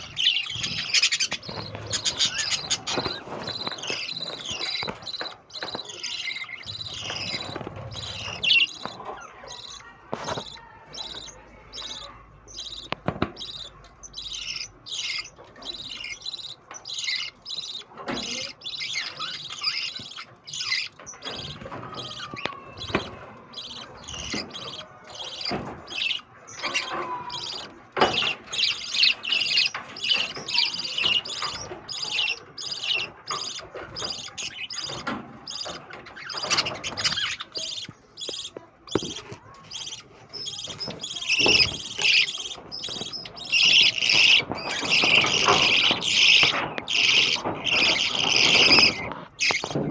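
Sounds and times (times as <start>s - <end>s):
caged birds chirping: 0.0s - 49.9s.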